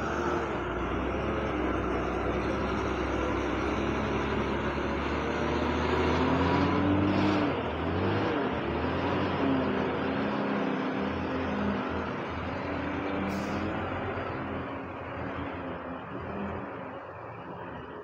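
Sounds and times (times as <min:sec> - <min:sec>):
lorry diesel engine: 0:00.0 - 0:18.0.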